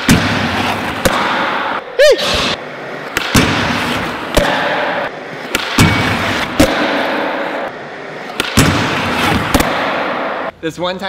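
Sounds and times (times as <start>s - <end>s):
skateboard wheels rolling on concrete: 0.4s - 9.7s.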